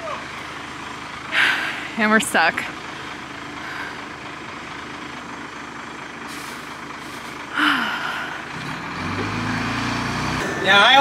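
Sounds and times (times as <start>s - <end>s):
diesel bus engine running: 0.0s - 11.0s.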